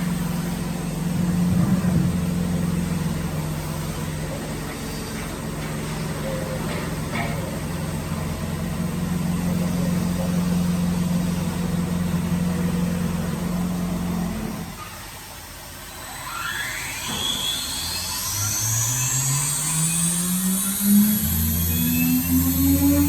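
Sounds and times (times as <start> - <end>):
drilling machine motor hum: 0.0 - 14.8, 15.6 - 23.0.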